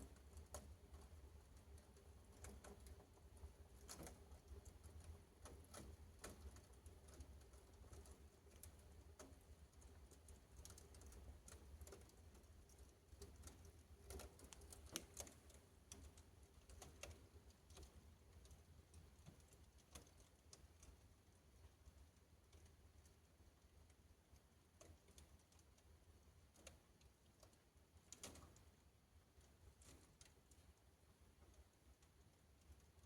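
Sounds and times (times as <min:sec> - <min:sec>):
fire crackling in a fireplace: 0:00.0 - 0:33.0.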